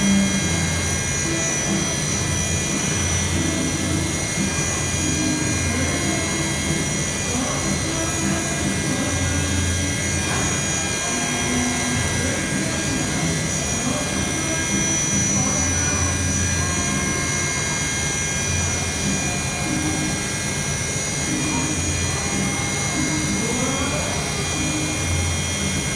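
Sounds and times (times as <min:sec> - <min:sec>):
low machine hums: 0:00.0 - 0:25.9
machine high whine and hiss: 0:00.0 - 0:25.9.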